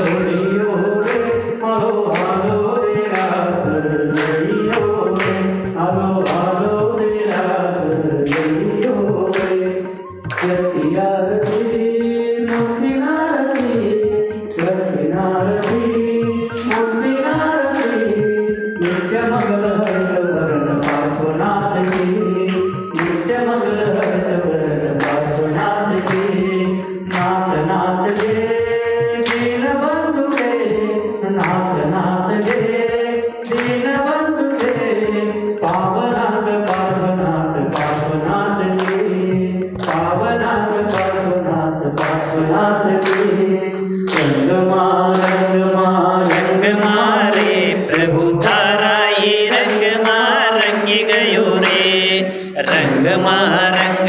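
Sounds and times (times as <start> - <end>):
crowd clapping: 0.0 - 13.9, 14.6 - 14.8, 15.4 - 18.2, 18.8 - 26.4, 27.0 - 30.7, 31.3 - 31.8, 32.4 - 35.0, 35.6 - 54.0
man singing through microphone: 0.0 - 54.0.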